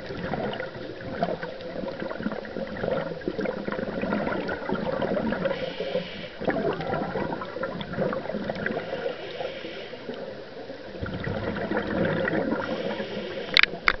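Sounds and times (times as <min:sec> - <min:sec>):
exhaled air bubbling underwater: 0:00.0 - 0:14.0.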